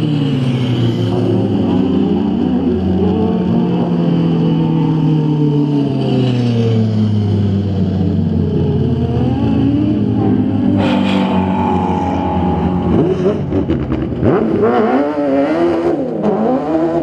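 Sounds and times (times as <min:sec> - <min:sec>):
buggy engines revving: 0:00.0 - 0:17.0.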